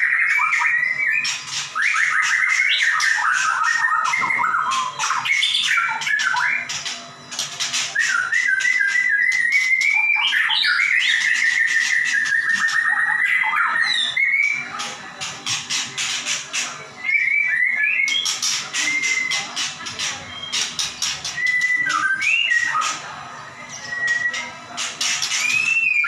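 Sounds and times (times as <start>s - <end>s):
songbird whistling and clicking: 0.0s - 23.0s, 23.7s - 26.0s.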